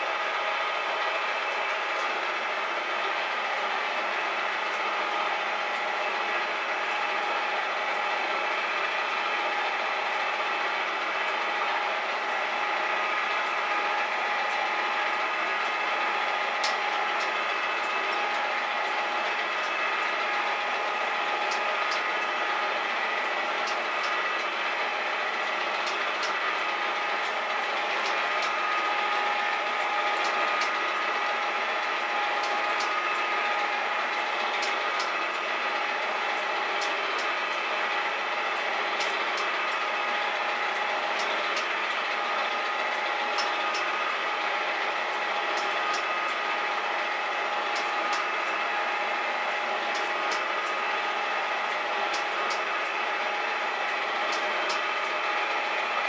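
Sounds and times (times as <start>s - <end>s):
gear drive whine: 0.0s - 56.0s.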